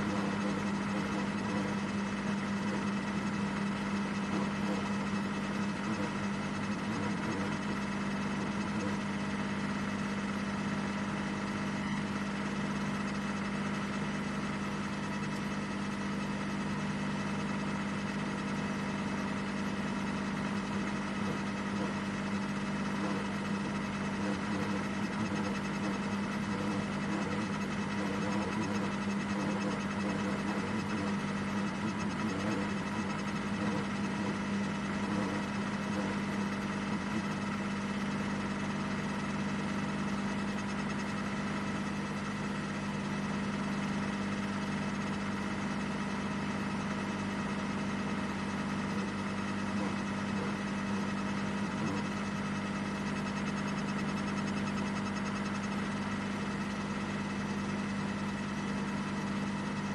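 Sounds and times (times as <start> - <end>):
car engine running steadily: 0.0 - 59.9.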